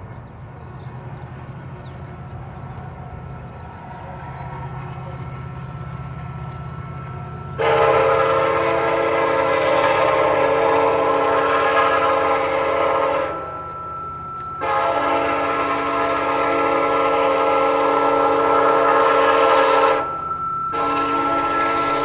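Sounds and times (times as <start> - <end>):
train low rumble: 0.0 - 22.0
train horn blasts: 1.8 - 22.0.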